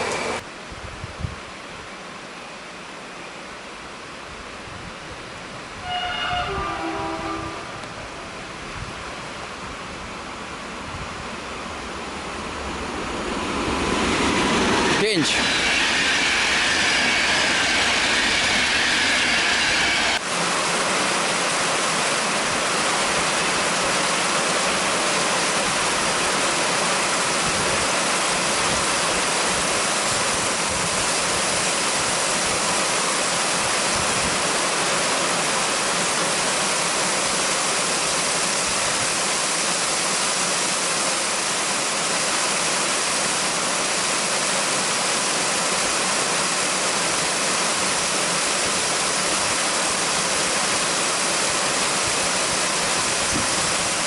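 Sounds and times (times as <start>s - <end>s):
heavy rain pouring: 5.6s - 54.0s.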